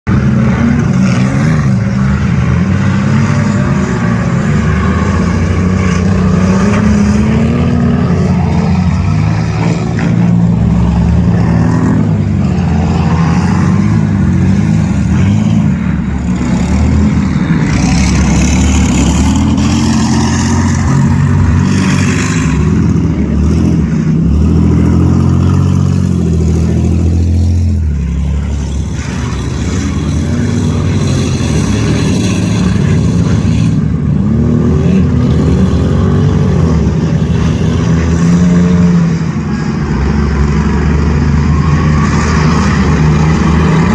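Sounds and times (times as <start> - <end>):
race car engine revving: 0.1 - 43.9.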